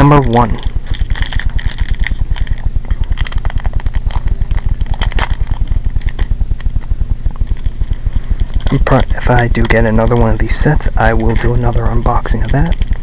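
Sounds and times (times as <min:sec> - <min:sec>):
foil wrapper crinkling and tearing: 0:00.0 - 0:13.0
low pulsing throb: 0:00.0 - 0:13.0.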